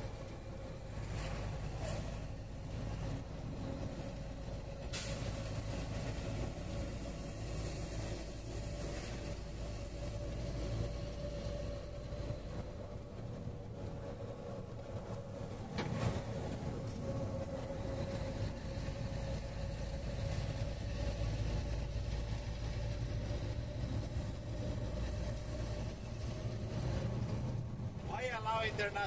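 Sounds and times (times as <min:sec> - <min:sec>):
constant whine: 0:00.0 - 0:29.0
truck engine and road rumble: 0:00.0 - 0:29.0.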